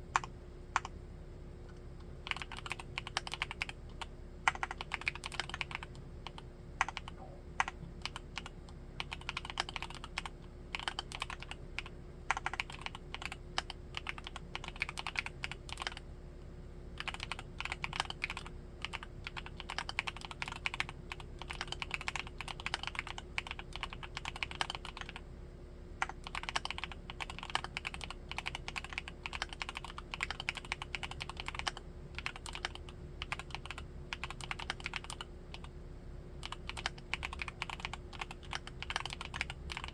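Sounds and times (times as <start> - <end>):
mechanical keyboard typing: 0.1 - 0.9, 2.2 - 16.0, 17.0 - 25.2, 26.0 - 35.7, 36.4 - 39.9.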